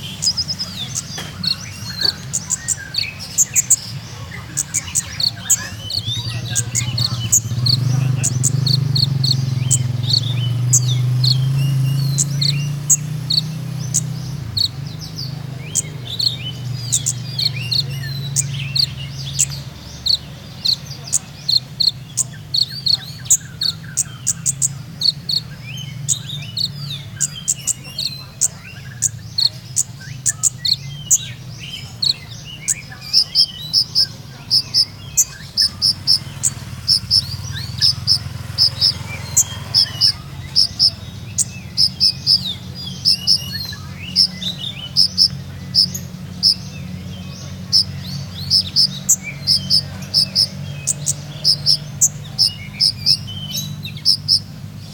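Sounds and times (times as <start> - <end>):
bird chirping song: 0.0 - 54.9.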